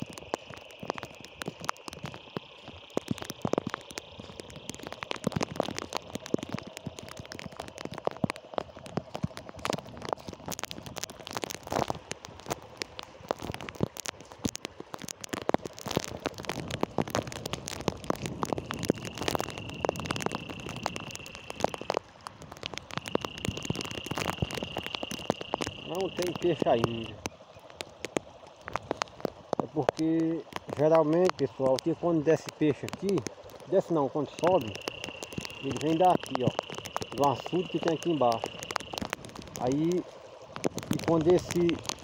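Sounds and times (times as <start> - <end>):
drops ticking close by: 0.0 - 42.0
rain falling: 0.0 - 42.0.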